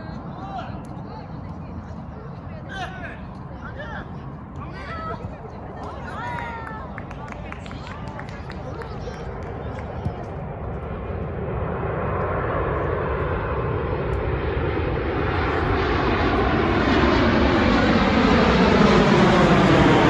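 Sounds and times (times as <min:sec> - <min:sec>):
aircraft engine flying over: 0:03.2 - 0:20.0.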